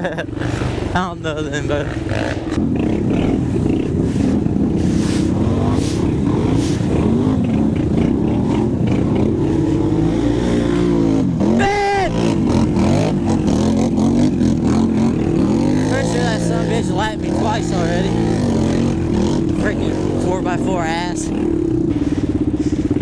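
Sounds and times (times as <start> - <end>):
quad engine revving: 0.0 - 23.0.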